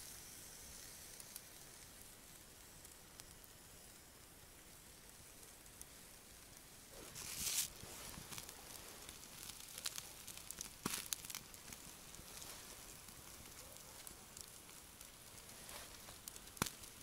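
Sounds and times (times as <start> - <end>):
campfire embers crackling: 0.0 - 17.0.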